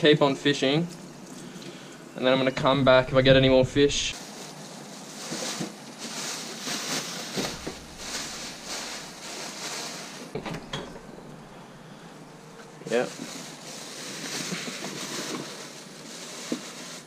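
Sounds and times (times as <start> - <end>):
plastic bag crinkling: 2.8 - 17.0.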